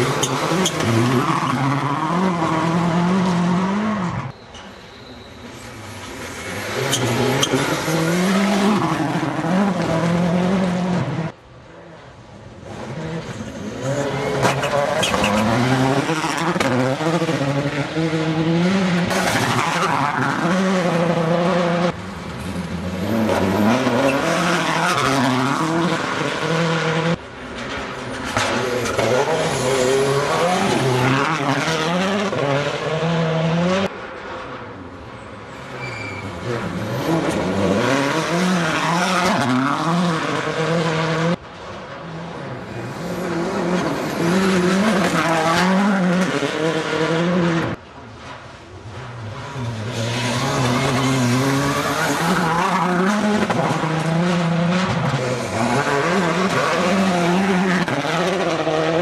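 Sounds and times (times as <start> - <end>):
gravel and tyre noise: 0.0 - 59.0
rally car engines revving: 0.0 - 59.0.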